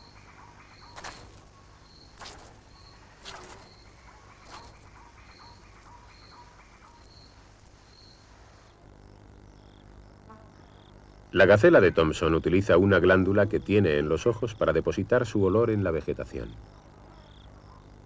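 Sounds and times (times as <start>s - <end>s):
faint insect chirps: 0.0s - 18.0s.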